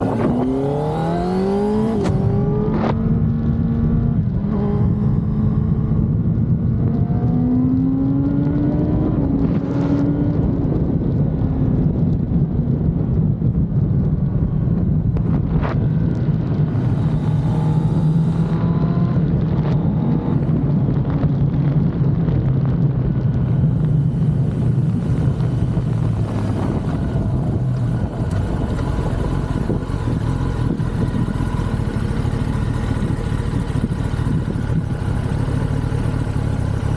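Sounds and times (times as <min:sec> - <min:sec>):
motorcycle engine revving: 0:00.0 - 0:11.9, 0:14.2 - 0:36.9.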